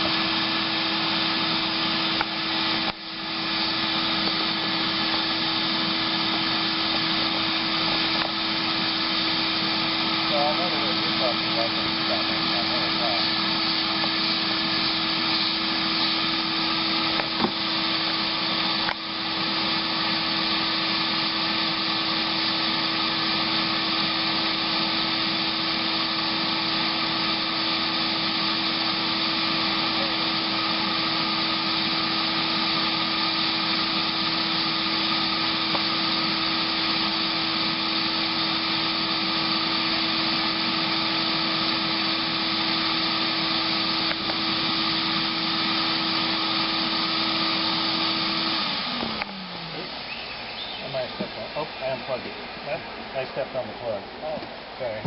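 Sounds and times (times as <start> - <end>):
vacuum humming: 0.0 - 55.0.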